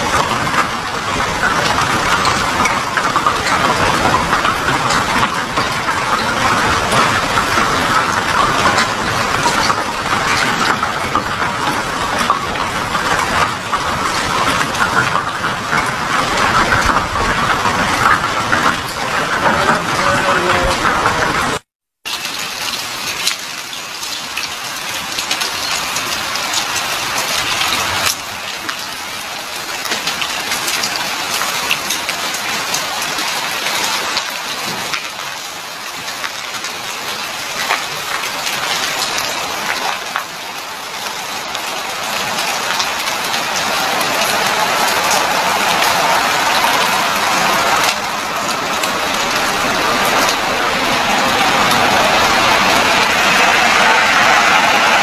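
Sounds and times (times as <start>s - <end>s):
ash patter on cars and pavement: 0.0s - 55.0s.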